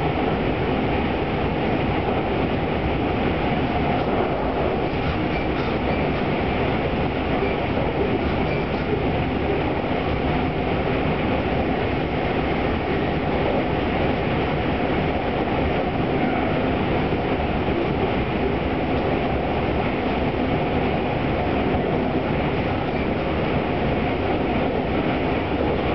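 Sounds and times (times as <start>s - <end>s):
train running at speed: 0.0s - 25.9s.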